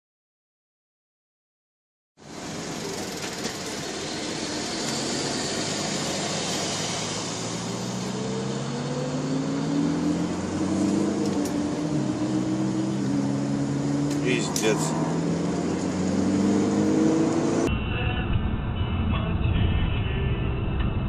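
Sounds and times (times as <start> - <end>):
car engine: 2.2 - 21.0.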